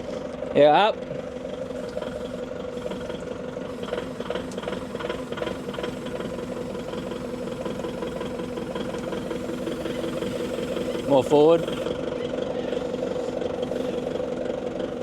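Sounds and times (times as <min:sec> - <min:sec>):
forklift engine idling: 0:00.0 - 0:15.0.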